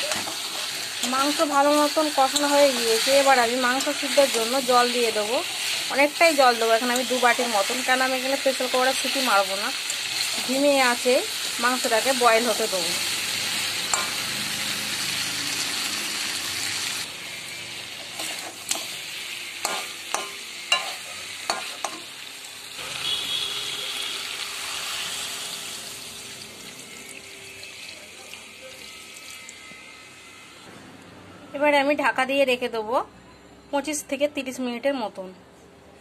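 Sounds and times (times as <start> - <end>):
meat sizzling in a pan: 0.0 - 30.4.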